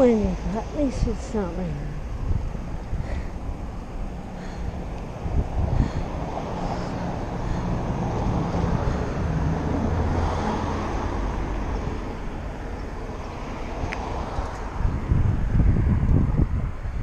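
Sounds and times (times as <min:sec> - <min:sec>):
car engine: 0:00.0 - 0:15.0
street traffic: 0:00.0 - 0:17.0
wind rushing over microphone: 0:00.0 - 0:17.0.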